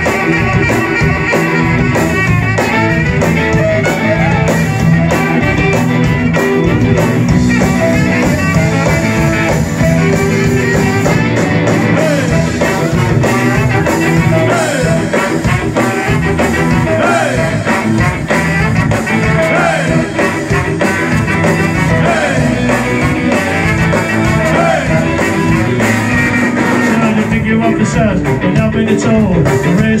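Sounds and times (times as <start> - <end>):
ska band playing live: 0.0 - 30.0.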